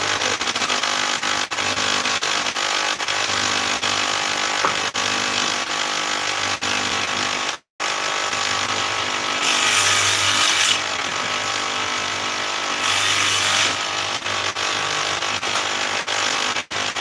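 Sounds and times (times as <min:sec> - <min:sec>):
woodworking machine running: 0:00.0 - 0:17.0
wood being cut by machine: 0:03.4 - 0:17.0.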